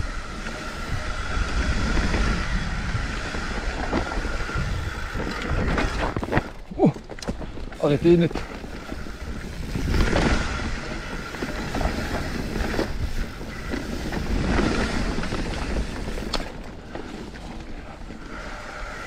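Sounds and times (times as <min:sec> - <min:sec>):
bike knocking and rattling: 0:00.0 - 0:19.0
bike tyres rumbling over dirt: 0:00.0 - 0:19.0
wind buffeting microphone: 0:00.0 - 0:19.0.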